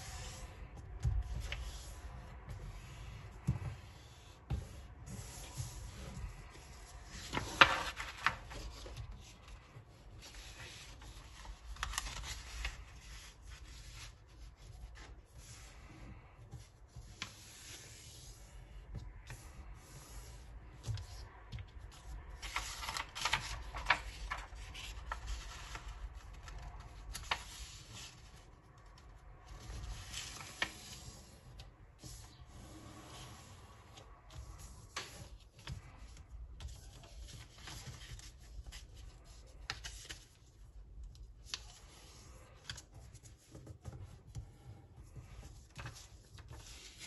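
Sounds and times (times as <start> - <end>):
paper rustling and folding: 0.0 - 47.0.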